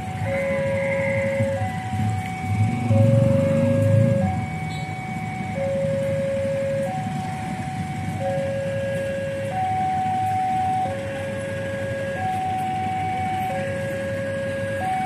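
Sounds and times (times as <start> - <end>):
level crossing alarm tones: 0.0 - 15.0
low engine rumble: 0.0 - 15.0.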